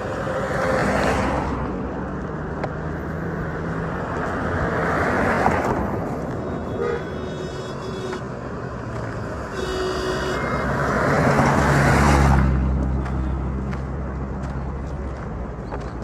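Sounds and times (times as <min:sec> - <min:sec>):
vehicle passing by: 0:00.0 - 0:06.6, 0:08.3 - 0:16.0.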